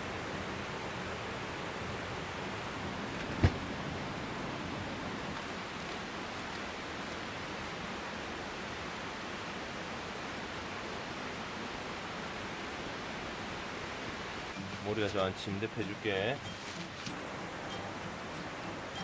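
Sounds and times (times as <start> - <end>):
steady rushing hiss: 0.0 - 19.0.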